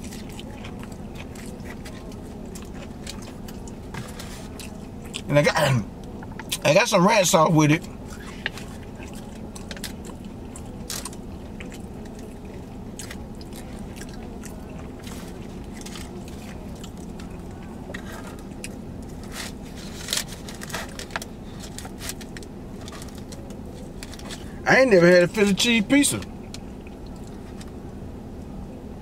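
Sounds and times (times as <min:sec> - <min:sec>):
close chewing of food: 0:00.0 - 0:06.7, 0:07.6 - 0:24.6, 0:26.1 - 0:27.8
low hum inside a car: 0:00.0 - 0:29.0.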